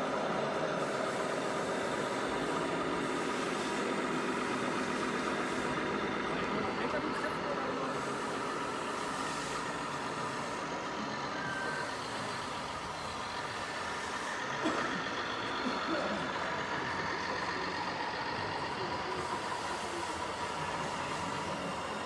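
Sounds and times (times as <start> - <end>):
model truck motor whining: 0.0 - 22.0.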